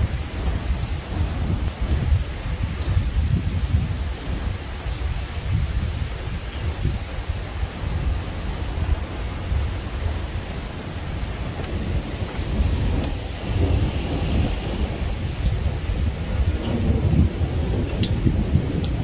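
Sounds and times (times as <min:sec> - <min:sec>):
steady rain: 0:00.0 - 0:19.0
thunder rumbling: 0:00.0 - 0:19.0.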